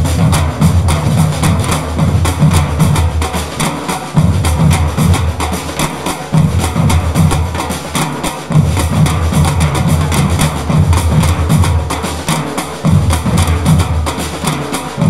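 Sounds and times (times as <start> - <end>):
bass drums pounding: 0.0 - 7.8, 8.5 - 12.2, 12.8 - 15.0
samba drum ensemble playing: 0.0 - 15.0.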